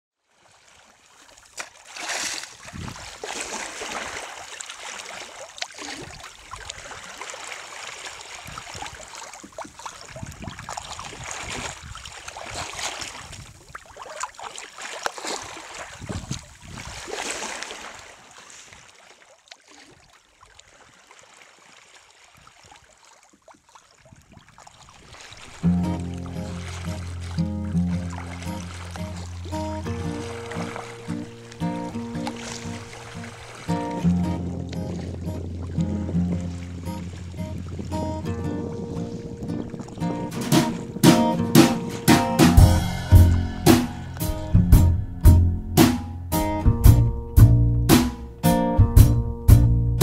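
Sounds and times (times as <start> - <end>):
sea water splashing along hull: 0.2 - 46.0.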